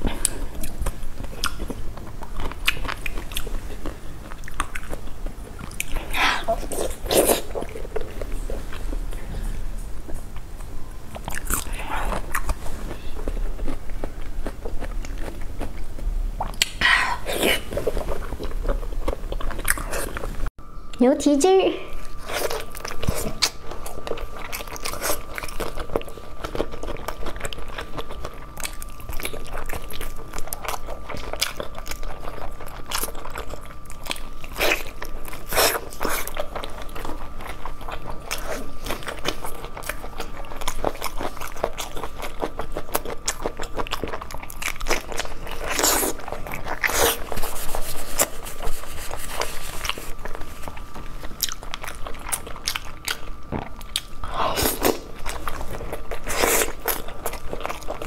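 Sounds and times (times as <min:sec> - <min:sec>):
person chewing meat: 0:00.0 - 0:20.5, 0:22.0 - 0:58.0
faint high hum: 0:00.0 - 0:58.0.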